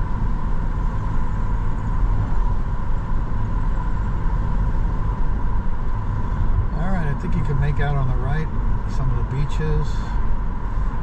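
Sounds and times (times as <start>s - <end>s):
car interior road and engine drone: 0.0s - 11.0s.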